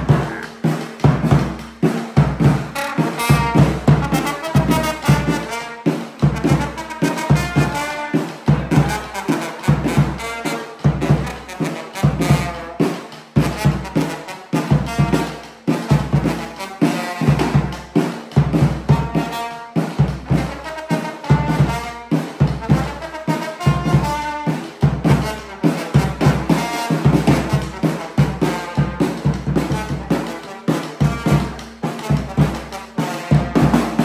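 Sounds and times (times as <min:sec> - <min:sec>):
bass drum steady beat: 0:00.0 - 0:34.0
trombone playing a melody: 0:00.0 - 0:34.0.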